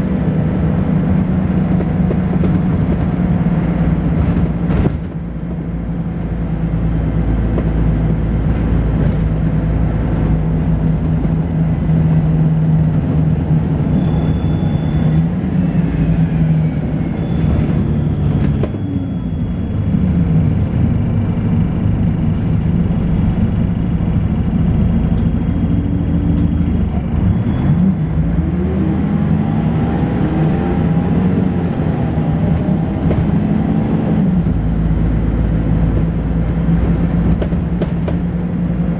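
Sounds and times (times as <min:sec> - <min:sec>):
bus engine drone: 0:00.0 - 0:38.9.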